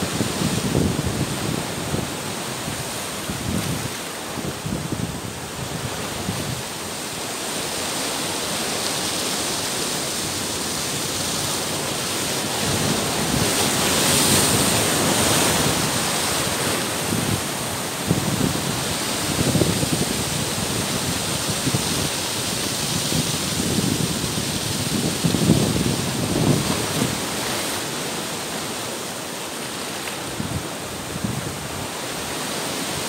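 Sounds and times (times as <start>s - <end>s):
surf breaking on rocks: 0.0s - 33.0s.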